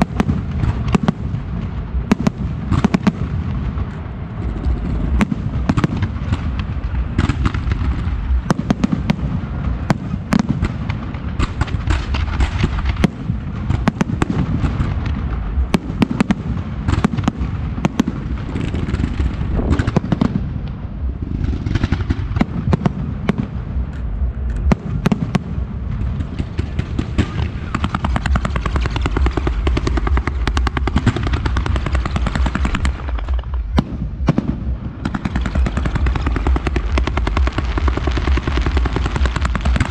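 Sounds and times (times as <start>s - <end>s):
fireworks bangs: 0.0s - 39.9s
fireworks bursting and crackling: 0.0s - 39.9s
low rumble: 0.0s - 39.9s.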